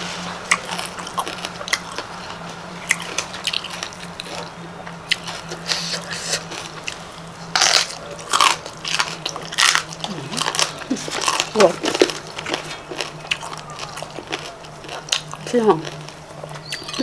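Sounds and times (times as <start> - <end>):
wet chewing: 0.4 - 17.0.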